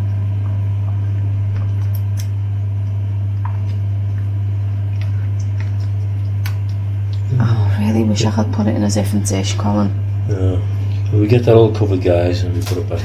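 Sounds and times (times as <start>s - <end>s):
loud low hum: 0.0s - 13.0s.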